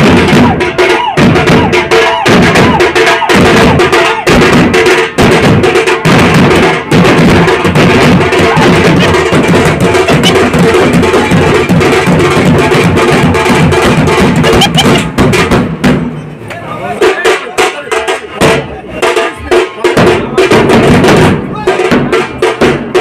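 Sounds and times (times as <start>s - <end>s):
street drums beaten fast: 0.0s - 23.0s.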